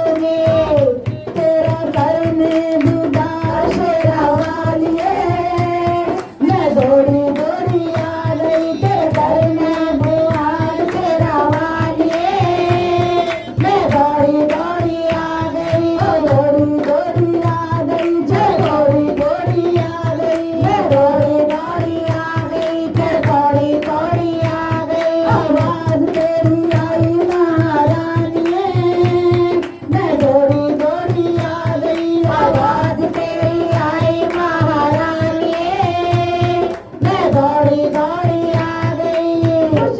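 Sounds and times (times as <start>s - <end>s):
fast hand drum beat: 0.0s - 39.9s.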